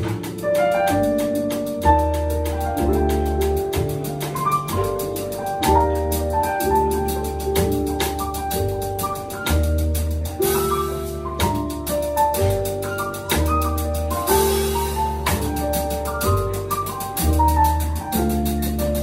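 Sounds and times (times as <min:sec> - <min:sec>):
drum kit cymbals: 0:00.0 - 0:19.0
piano: 0:00.0 - 0:19.0
plucked double bass: 0:00.0 - 0:19.0.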